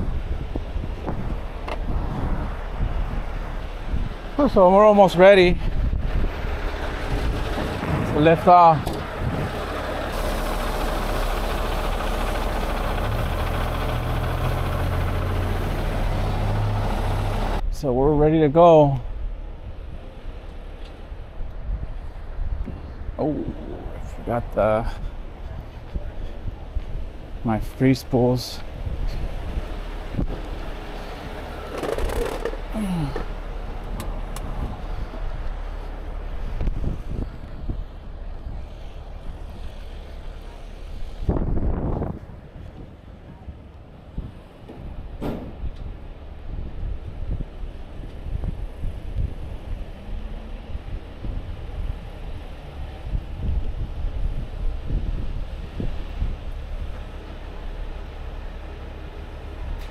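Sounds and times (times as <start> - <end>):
diesel truck engine idling: 0.0 - 17.6, 23.2 - 42.6, 45.9 - 59.9
wind buffeting microphone: 0.0 - 18.3, 19.0 - 27.8, 28.5 - 58.5.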